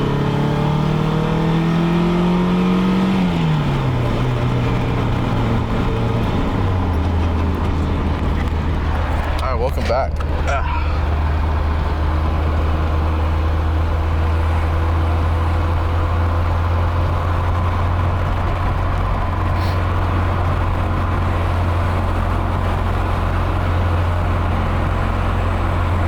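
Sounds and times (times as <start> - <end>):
car engine and exhaust droning: 0.0 - 26.0.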